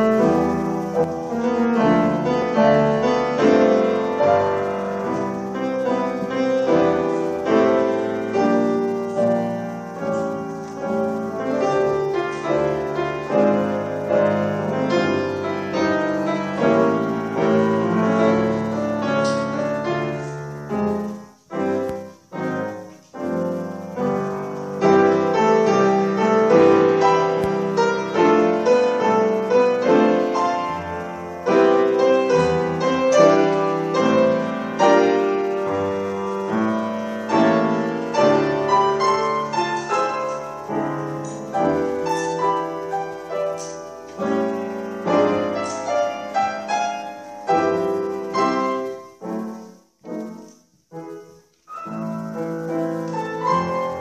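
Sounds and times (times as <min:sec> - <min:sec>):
grand piano four hands: 0:00.0 - 0:54.0
short separated piano chords: 0:00.0 - 0:54.0.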